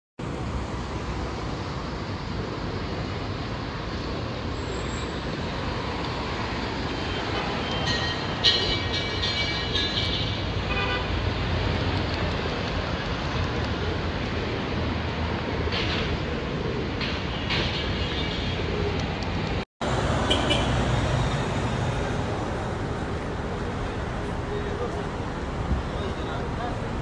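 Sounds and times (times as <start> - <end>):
city traffic noise: 0.2 - 27.0.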